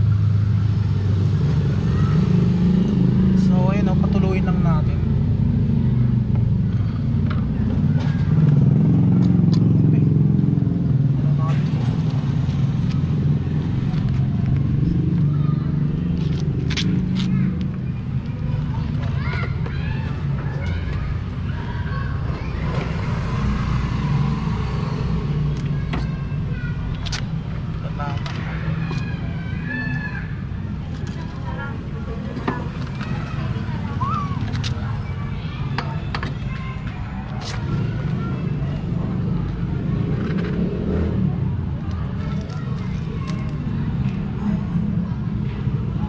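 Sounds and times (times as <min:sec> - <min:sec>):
faint voices: 0:01.5 - 0:46.0.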